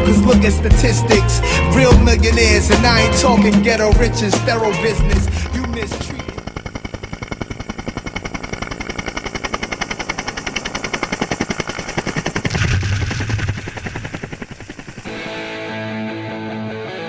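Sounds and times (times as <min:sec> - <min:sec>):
helicopter rotor blades chopping: 0:00.0 - 0:16.0.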